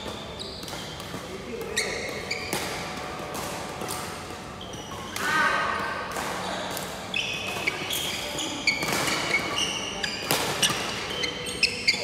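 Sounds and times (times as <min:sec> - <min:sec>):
shoes squeaking on wooden floor: 0:00.0 - 0:05.2, 0:06.4 - 0:12.0
rackets striking shuttlecock: 0:00.0 - 0:11.8.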